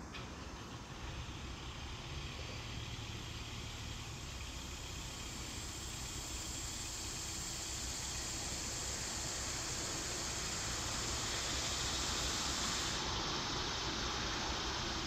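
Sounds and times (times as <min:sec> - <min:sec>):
high hiss: 0:00.6 - 0:15.0.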